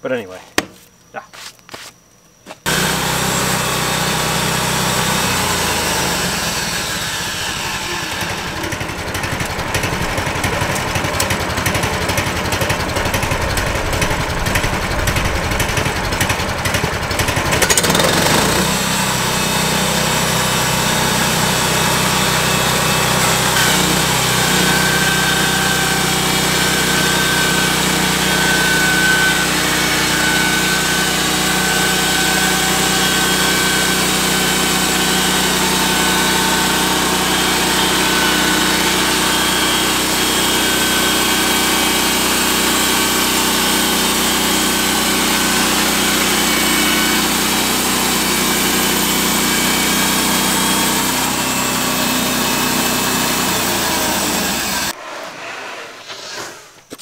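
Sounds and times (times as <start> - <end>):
band blade sawing boards: 2.5 - 57.0
gasoline engine under load: 2.6 - 55.0.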